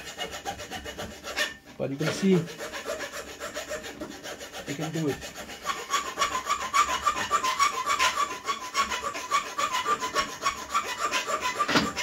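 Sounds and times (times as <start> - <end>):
saw rasping on steel bar: 0.0 - 12.0.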